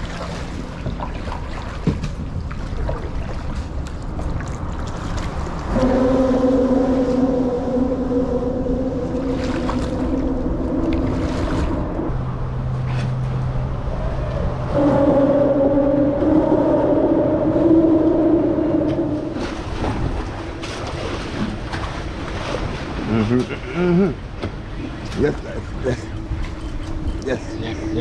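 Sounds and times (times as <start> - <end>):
mechanical hum of passing vehicles: 0.0 - 28.0.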